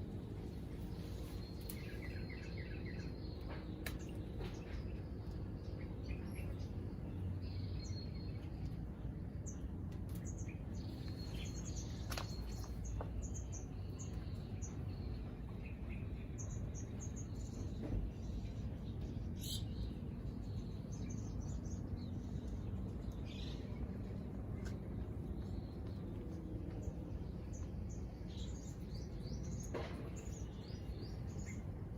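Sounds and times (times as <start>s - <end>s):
low background rumble: 0.0s - 31.9s
small birds chirping: 0.0s - 31.9s.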